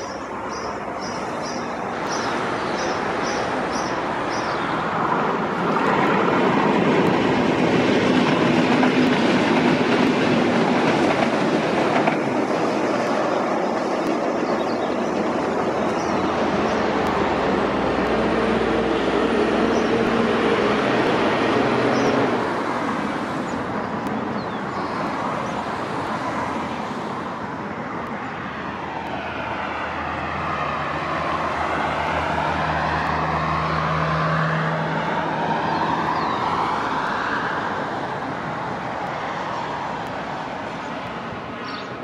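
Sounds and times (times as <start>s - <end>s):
electric train passing: 0.0s - 42.0s.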